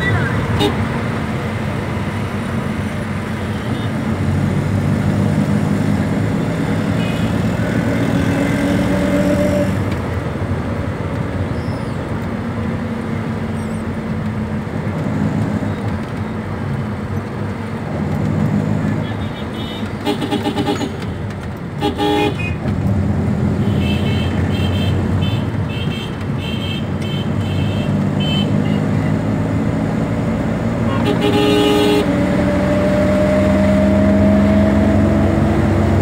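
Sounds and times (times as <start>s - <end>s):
road and wind noise: 0.0s - 36.0s
vehicle engine hum: 0.0s - 36.0s.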